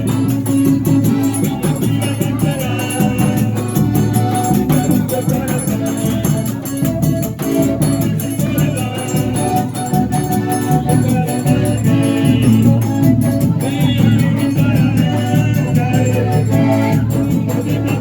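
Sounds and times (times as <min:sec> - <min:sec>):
loud folk dance music: 0:00.0 - 0:18.0.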